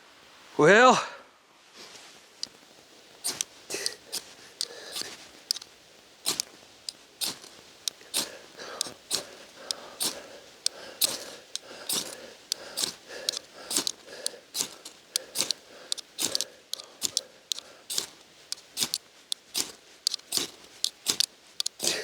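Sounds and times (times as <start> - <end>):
metal striker scraping ferrocerium rod: 3.2 - 5.7, 6.3 - 22.0.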